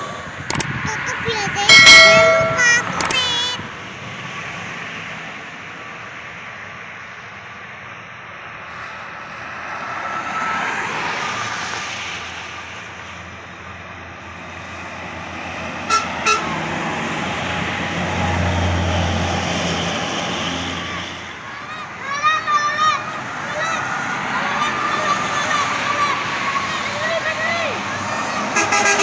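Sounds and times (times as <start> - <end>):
traffic passing: 3.2 - 29.0.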